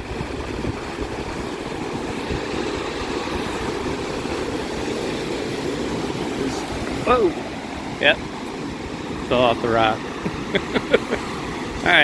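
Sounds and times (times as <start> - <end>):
waves breaking over shore rocks: 0.0 - 12.0.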